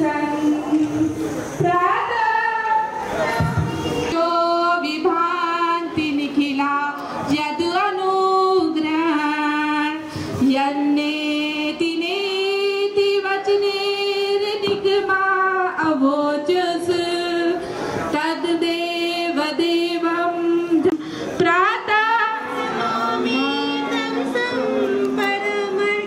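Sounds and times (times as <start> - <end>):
woman singing slow melody: 0.0 - 3.0, 4.1 - 26.0.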